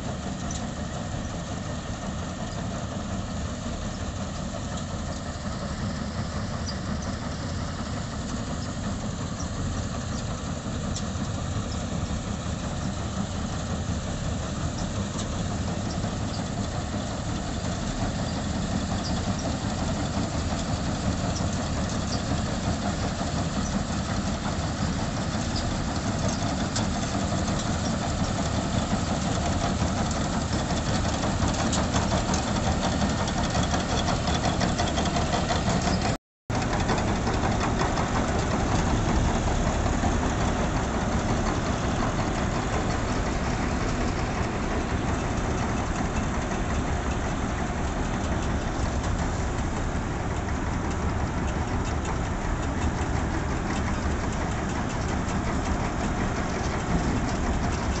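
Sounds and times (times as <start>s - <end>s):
combine harvester engine running: 0.0s - 58.0s.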